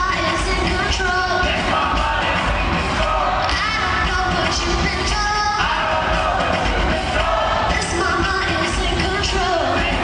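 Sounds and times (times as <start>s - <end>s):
live pop concert music: 0.0s - 10.0s.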